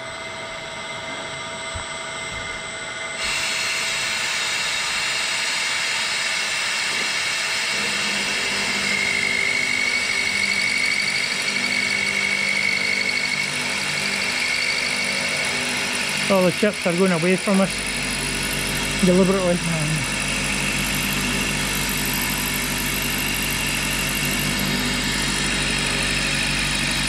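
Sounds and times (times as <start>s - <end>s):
high whine: 0.0s - 27.0s
milling machine cutting: 3.2s - 27.0s.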